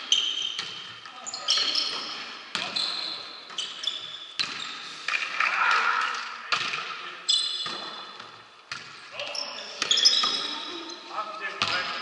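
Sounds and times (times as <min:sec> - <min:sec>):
shoes squeaking on court floor: 0:00.0 - 0:05.4, 0:06.6 - 0:12.0
volleyball hits echoing: 0:00.6 - 0:07.0, 0:07.6 - 0:10.6, 0:11.6 - 0:12.0.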